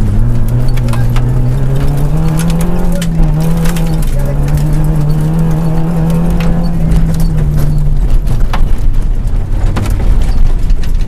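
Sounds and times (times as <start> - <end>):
gravel knocking against car underside: 0.0 - 11.0
rally car engine from inside cabin: 0.0 - 11.0.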